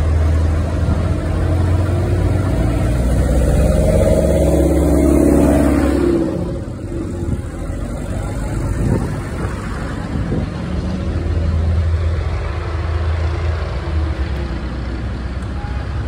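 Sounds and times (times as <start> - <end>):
tractor engines driving past: 0.0 - 16.0.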